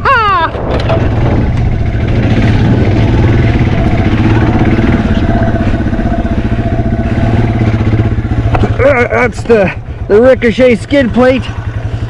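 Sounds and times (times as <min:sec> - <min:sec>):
motorcycle engine running low: 0:00.3 - 0:12.0.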